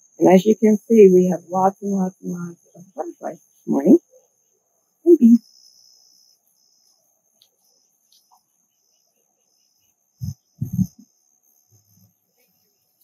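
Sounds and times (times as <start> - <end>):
insects trilling: 0.0 - 13.0
lower insect trill: 0.0 - 13.0.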